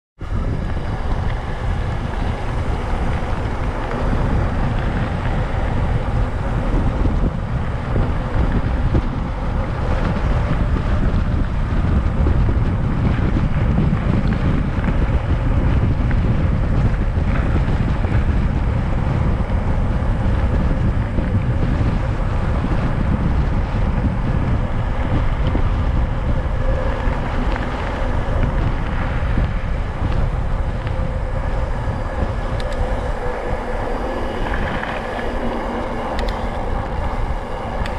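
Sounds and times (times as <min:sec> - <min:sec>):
bike tyres rolling on asphalt: 0:00.2 - 0:37.9
wind on microphone: 0:00.2 - 0:37.9.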